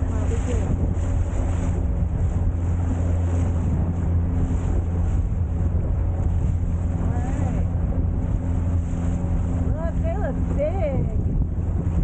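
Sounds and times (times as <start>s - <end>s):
motorboat engine humming: 0.0s - 12.0s
rushing water: 0.0s - 12.0s
wind buffeting microphone: 0.0s - 12.0s.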